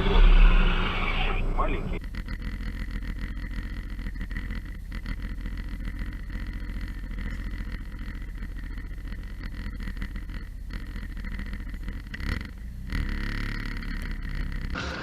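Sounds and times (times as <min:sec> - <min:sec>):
car engine and road rumble: 0:00.0 - 0:15.0
faint steady whine: 0:00.0 - 0:15.0.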